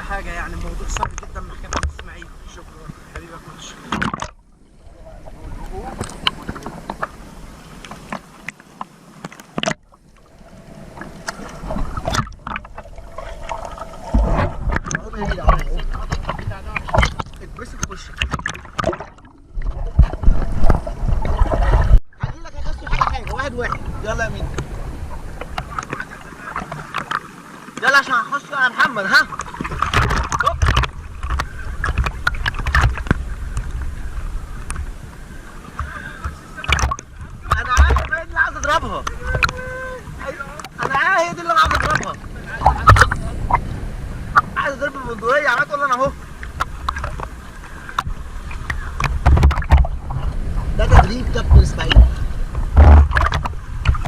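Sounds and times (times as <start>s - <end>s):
wind rumbling on microphone: 0.0s - 8.3s, 10.2s - 27.1s, 29.3s - 54.0s
sea water sloshing and splashing: 0.0s - 54.0s.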